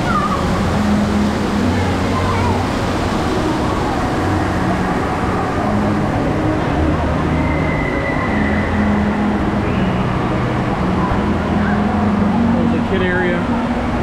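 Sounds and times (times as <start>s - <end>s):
echoing hall noise: 0.0s - 14.0s
water rushing: 0.0s - 14.0s.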